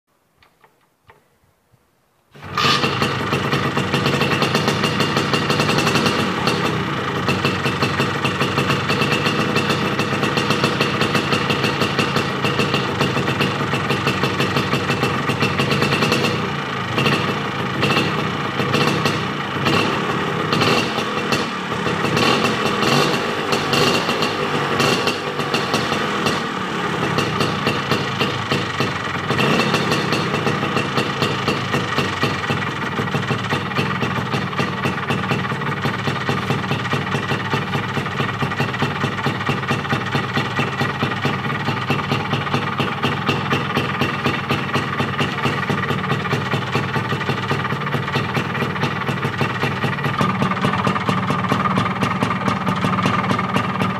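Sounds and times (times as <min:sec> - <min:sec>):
scooter engine idling: 0:02.4 - 0:53.9.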